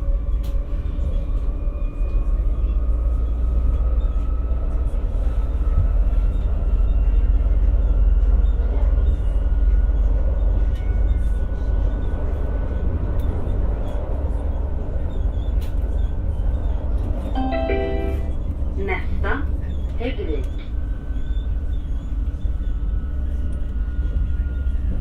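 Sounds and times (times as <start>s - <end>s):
train wheels rumbling on track: 0.0s - 17.4s, 18.7s - 25.0s.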